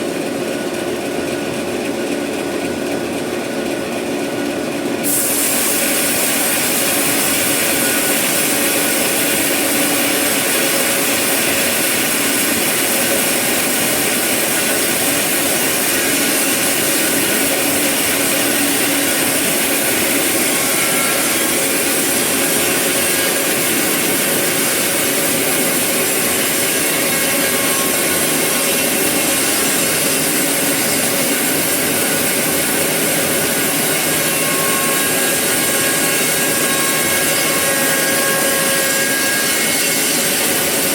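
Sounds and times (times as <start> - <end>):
sawmill saw cutting wood: 5.0 - 40.9.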